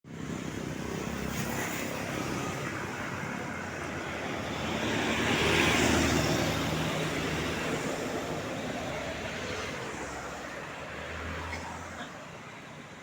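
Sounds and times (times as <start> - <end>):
roadside traffic: 0.0 - 13.0.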